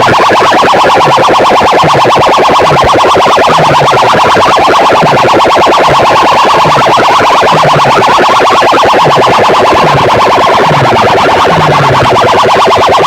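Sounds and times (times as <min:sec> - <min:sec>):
distorted music from loudspeakers: 0:00.0 - 0:13.0.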